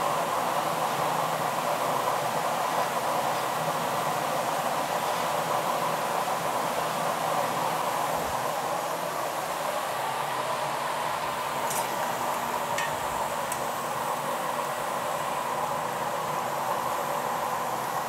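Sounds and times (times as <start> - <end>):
furnace burner and blower rushing: 0.0 - 18.0.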